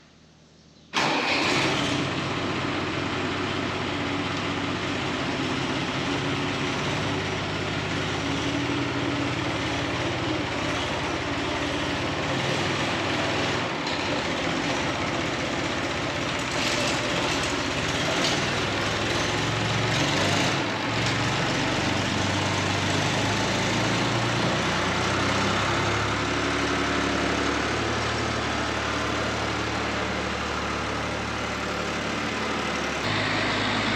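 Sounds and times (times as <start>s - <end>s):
heavy machinery engine running: 1.0s - 33.9s.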